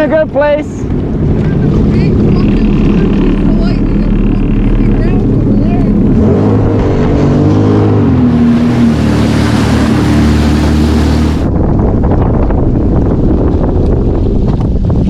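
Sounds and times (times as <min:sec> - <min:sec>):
watercraft engine running: 0:00.0 - 0:15.0.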